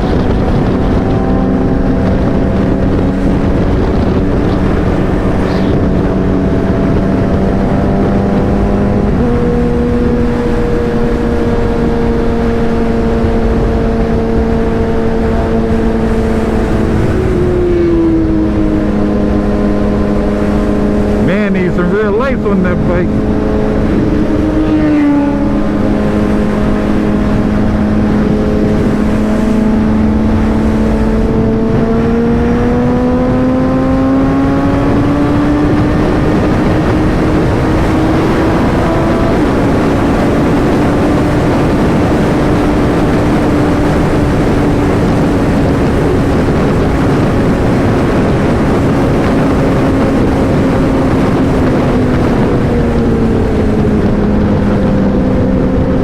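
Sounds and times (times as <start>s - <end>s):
motorcycle engine running: 0.0s - 21.3s, 21.9s - 56.0s
wind noise: 0.0s - 56.0s.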